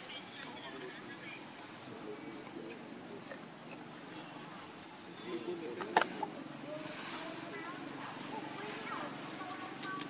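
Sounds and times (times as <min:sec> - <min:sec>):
faint voices murmuring: 0:00.0 - 0:10.0
insects droning: 0:00.0 - 0:10.0.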